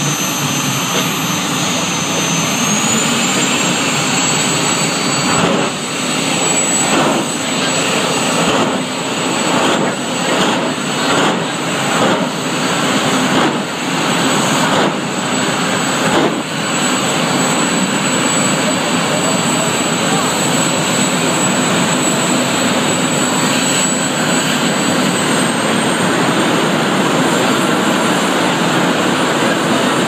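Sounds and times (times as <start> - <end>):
turbine engine roaring: 0.0 - 30.0.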